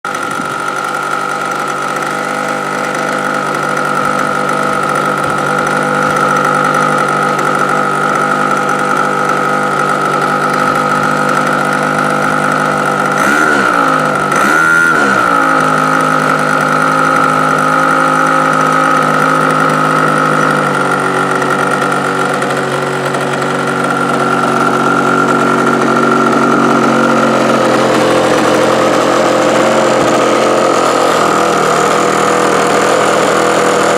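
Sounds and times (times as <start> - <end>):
model plane engine with high whine: 0.0 - 33.9.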